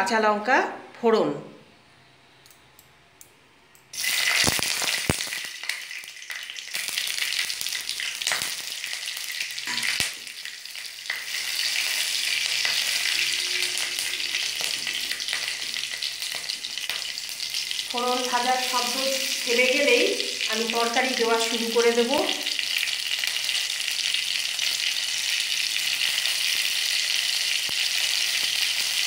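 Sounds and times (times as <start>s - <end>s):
seeds sizzling in hot oil: 3.9s - 29.0s.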